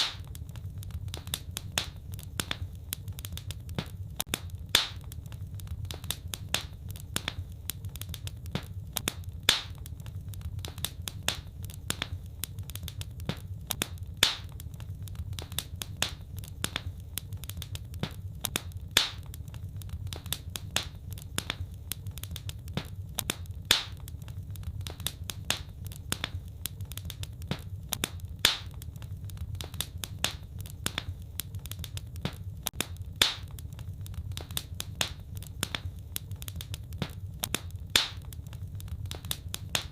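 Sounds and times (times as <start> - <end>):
low steady rumble: 0.0 - 39.9
wood fire crackling and popping: 0.0 - 39.9.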